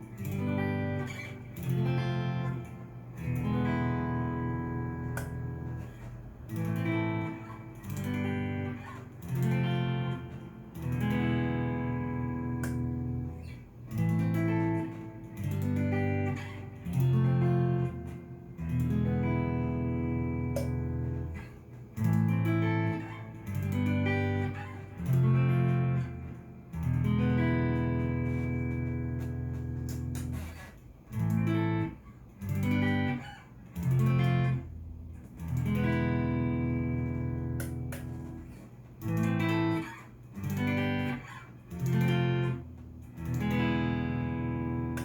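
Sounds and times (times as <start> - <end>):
electric guitar chords ringing: 0.0 - 45.0.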